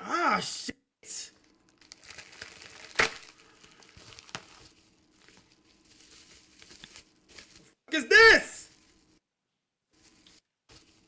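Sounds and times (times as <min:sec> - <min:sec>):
rustling of gift packaging: 0:01.3 - 0:09.2, 0:10.0 - 0:11.0.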